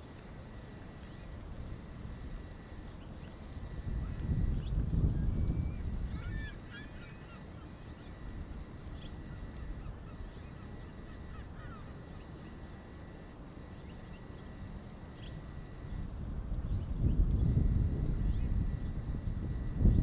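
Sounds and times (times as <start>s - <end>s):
low steady rumble: 0.0s - 20.0s
distant birds calling: 0.5s - 20.0s.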